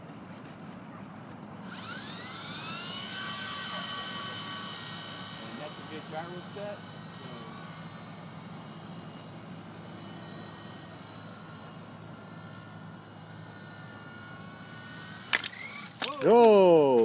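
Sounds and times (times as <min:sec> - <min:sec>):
electric motor whine: 0:01.5 - 0:17.0
rotors buzzing: 0:01.5 - 0:17.0.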